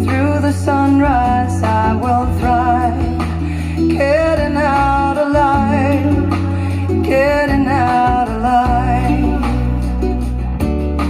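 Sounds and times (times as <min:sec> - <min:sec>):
singer with vibrato: 0:00.0 - 0:10.4
guitar: 0:00.0 - 0:11.0
steady bass line: 0:00.0 - 0:11.0.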